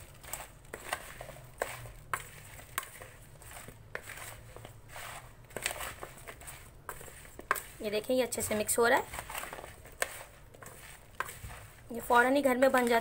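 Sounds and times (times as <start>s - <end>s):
mango pieces mixed with spices: 0.0s - 13.0s.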